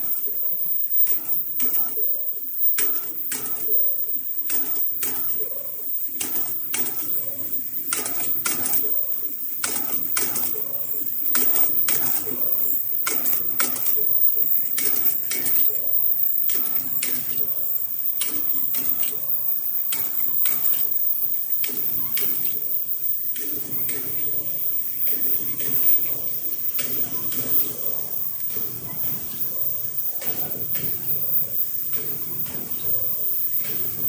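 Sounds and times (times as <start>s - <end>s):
steady machine din: 0.0s - 34.0s
welding head clacking: 0.0s - 34.0s.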